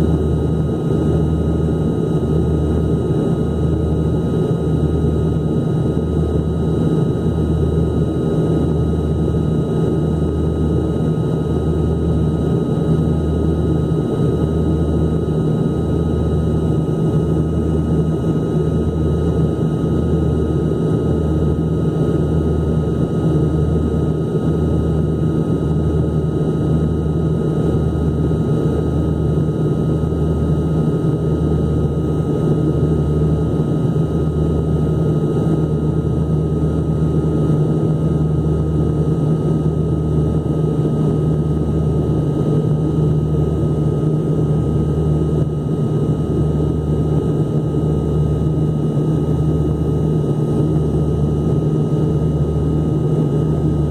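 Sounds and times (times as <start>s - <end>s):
airliner engine drone: 0.0s - 53.9s.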